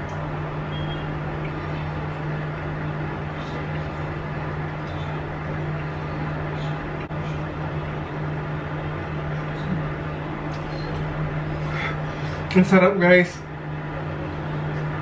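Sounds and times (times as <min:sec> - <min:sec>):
low hum and background noise: 0:00.0 - 0:15.0.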